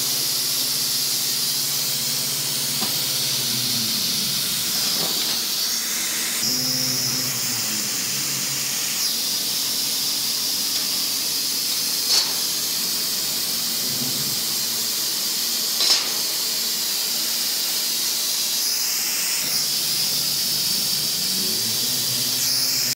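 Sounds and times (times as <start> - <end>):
laser cutter air hiss: 0.0 - 22.9.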